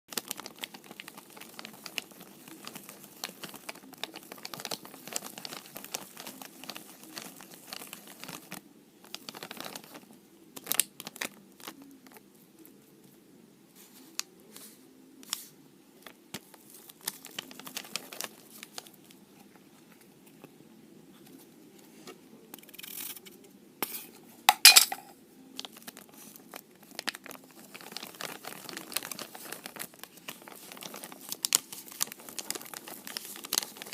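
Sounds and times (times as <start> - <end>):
crinkling: 0.1 - 33.9.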